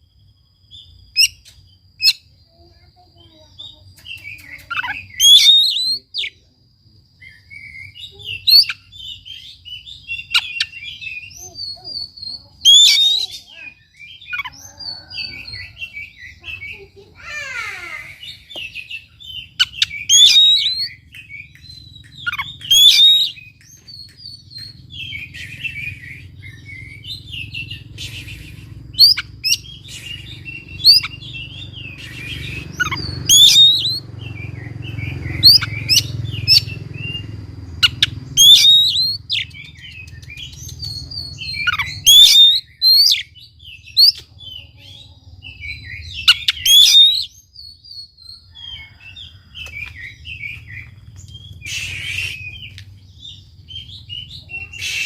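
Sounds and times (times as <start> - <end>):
bird chirping and warbling: 0.0 - 6.5, 7.2 - 55.0.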